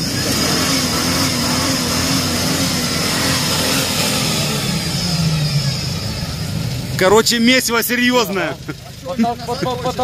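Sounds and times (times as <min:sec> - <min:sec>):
suv engine at high revs: 0:00.0 - 0:10.0.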